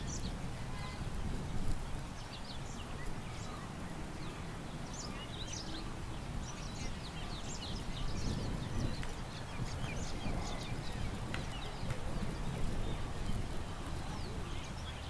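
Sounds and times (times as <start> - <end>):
low rumble of wind: 0.0 - 15.0
songbirds chirping: 2.2 - 15.0.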